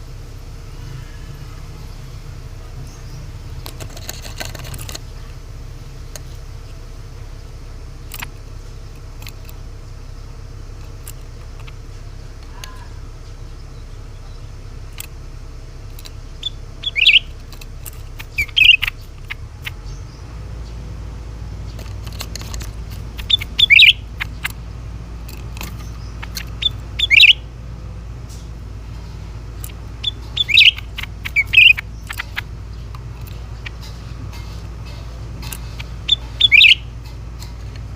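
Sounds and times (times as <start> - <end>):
bird calling: 0.0 - 37.9
low hum: 0.0 - 37.9.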